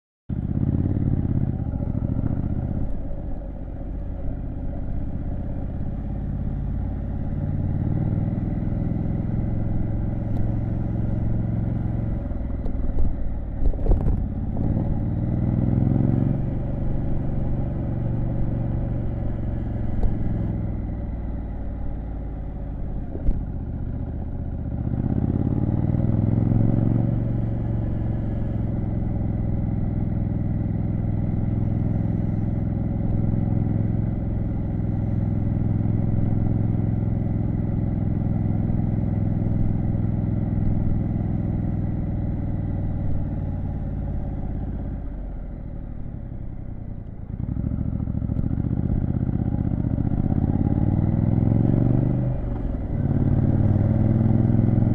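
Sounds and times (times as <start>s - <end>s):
motorcycle engine revving while riding: 0.3s - 54.9s.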